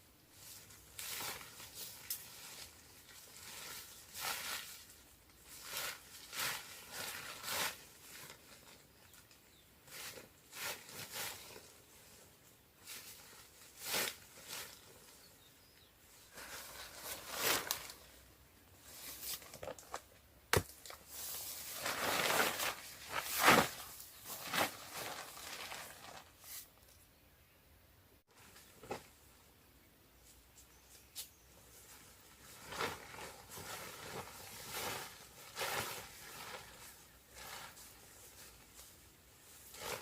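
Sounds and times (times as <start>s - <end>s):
rustling of dry leaves and sticks: 0.3s - 27.1s, 30.1s - 40.0s.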